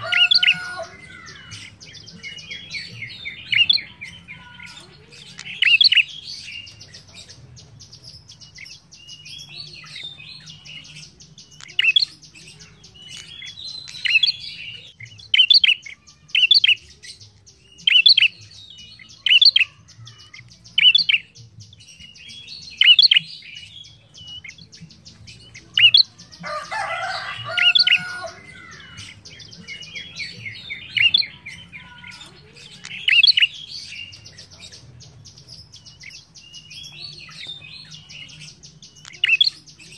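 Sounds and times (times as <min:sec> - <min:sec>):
bird singing sharp high phrases: 0:00.0 - 0:39.9.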